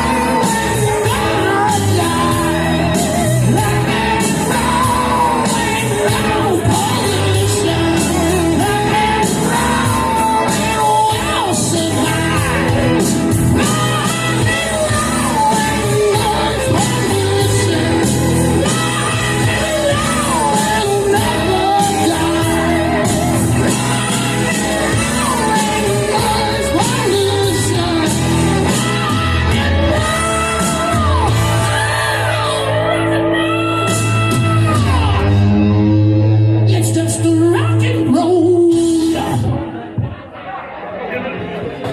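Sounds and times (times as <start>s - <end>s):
person singing long notes: 0.0s - 39.6s
hard rock band: 0.0s - 40.1s
shouted lead vocals: 0.0s - 40.4s.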